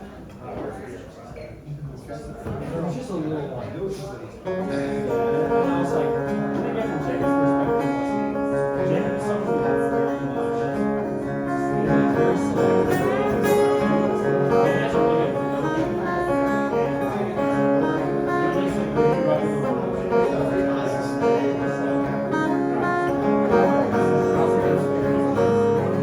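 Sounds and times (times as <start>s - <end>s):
strummed acoustic guitar music: 4.4s - 26.0s.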